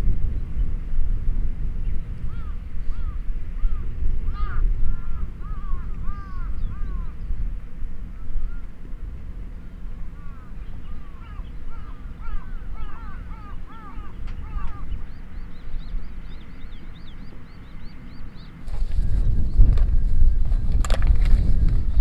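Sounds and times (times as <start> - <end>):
low steady rumble: 0.0 - 22.0
birds chirping: 1.8 - 8.7, 10.0 - 21.6.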